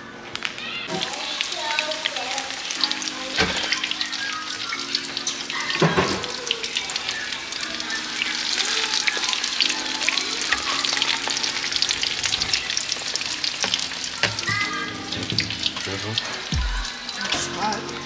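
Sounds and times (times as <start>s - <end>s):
fries sizzling in hot oil: 0.3s - 18.0s.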